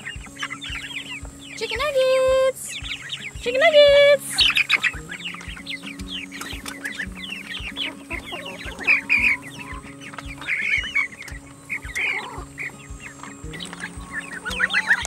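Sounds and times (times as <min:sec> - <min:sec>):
background music with beat: 0:00.0 - 0:15.0
chicks peeping: 0:00.0 - 0:15.0.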